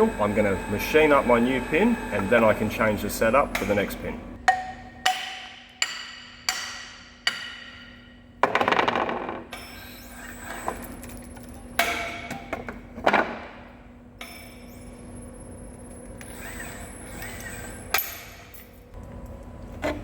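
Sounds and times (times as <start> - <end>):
low machine hum: 0.0 - 8.4, 10.8 - 20.0.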